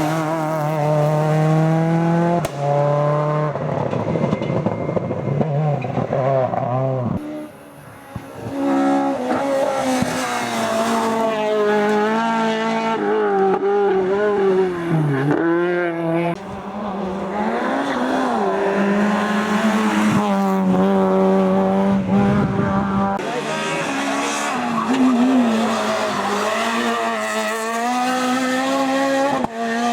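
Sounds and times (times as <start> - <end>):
racing car engine revving: 0.0 - 3.9, 5.4 - 29.9.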